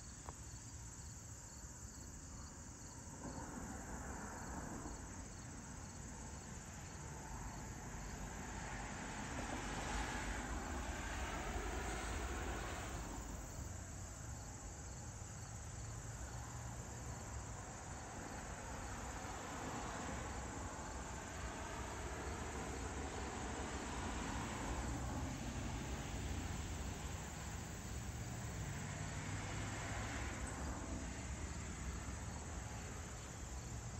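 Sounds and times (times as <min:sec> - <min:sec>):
crickets chirping: 0:00.0 - 0:33.9
cars passing on road: 0:02.8 - 0:33.9.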